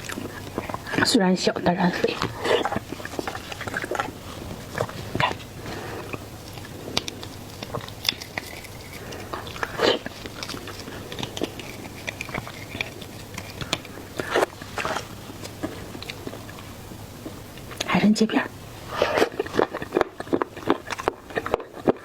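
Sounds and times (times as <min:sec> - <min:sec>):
seafood being bitten and chewed: 0:00.0 - 0:17.9, 0:18.5 - 0:22.0.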